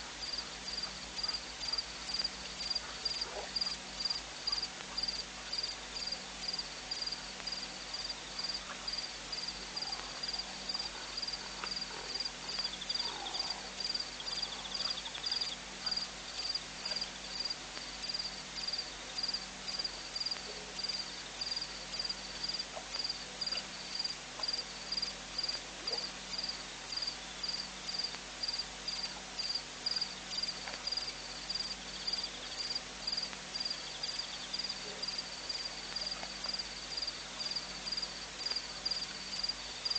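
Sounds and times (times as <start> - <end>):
low steady hum: 0.0 - 39.9
cricket chirping: 0.2 - 39.9
faint insect trill: 0.2 - 39.9.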